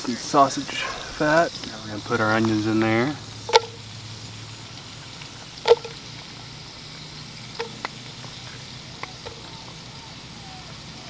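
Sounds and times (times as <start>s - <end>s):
onions sizzling in fat: 0.0s - 11.0s.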